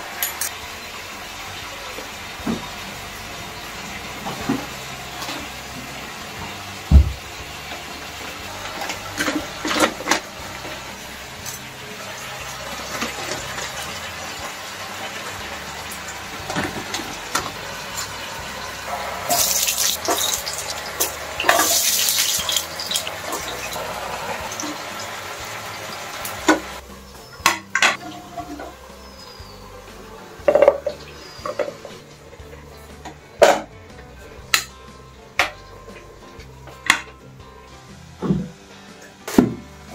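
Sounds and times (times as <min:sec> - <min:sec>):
food sizzling in oil: 0:00.0 - 0:32.2.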